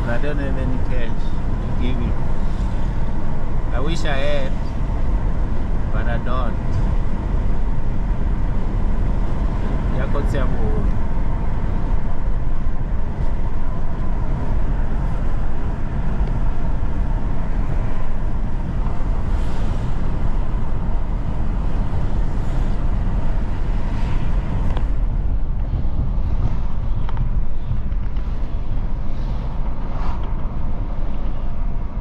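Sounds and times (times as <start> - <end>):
car road and engine noise: 0.0 - 32.0
passing traffic: 0.0 - 32.0.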